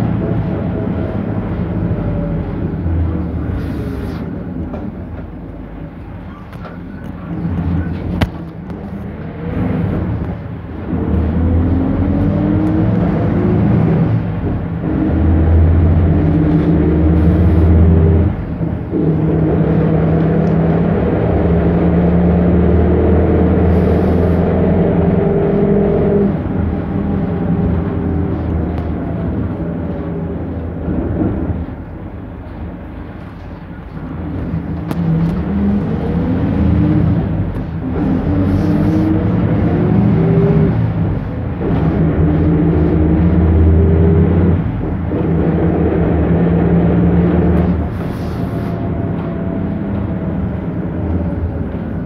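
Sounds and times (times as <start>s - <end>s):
bus diesel engine pulling away: 0.0s - 52.0s.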